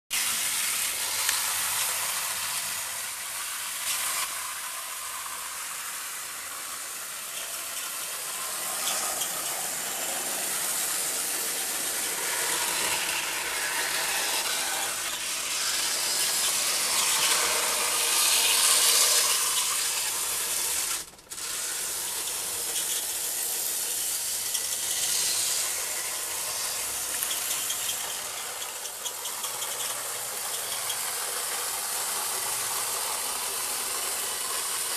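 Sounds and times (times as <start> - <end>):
model train motor whirring: 0.2 - 34.9
wheels rattling on track: 6.6 - 34.9.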